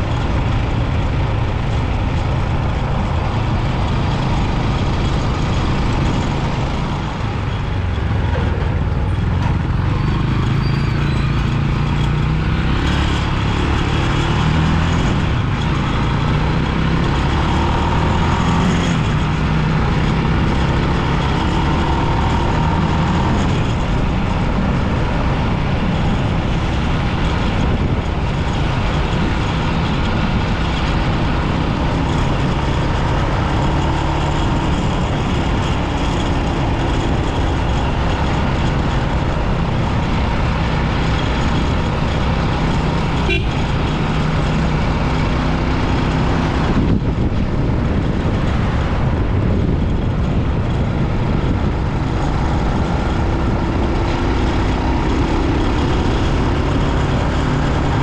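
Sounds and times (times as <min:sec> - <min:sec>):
motorbike engine: 0:00.0 - 0:58.0
road and wind noise: 0:00.0 - 0:58.0.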